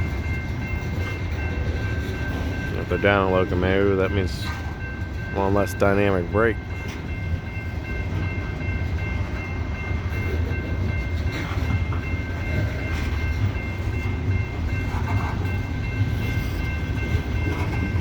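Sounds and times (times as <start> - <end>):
train cars rumbling: 0.0 - 18.0.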